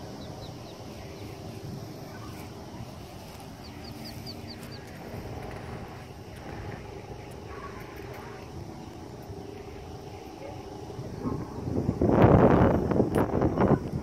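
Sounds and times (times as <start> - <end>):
ducklings peeping: 0.0 - 11.9.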